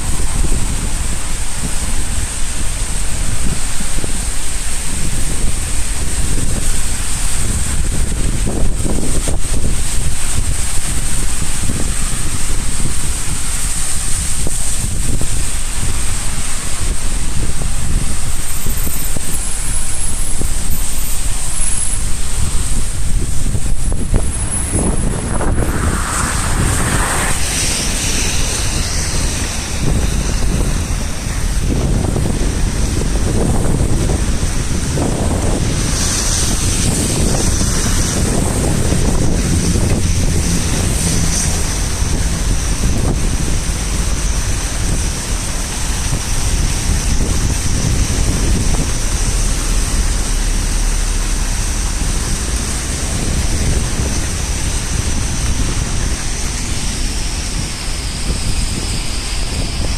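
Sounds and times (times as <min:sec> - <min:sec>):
rain pouring: 0:00.0 - 0:59.9
wind buffeting microphone: 0:00.0 - 0:59.9.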